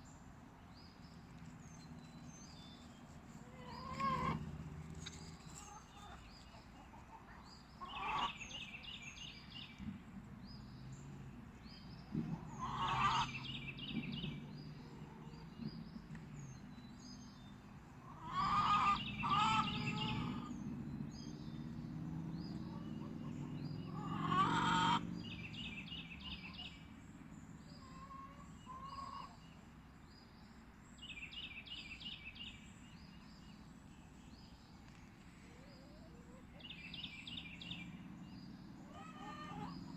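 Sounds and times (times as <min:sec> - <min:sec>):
loud bird calls: 0:00.9 - 0:30.4, 0:31.2 - 0:39.9.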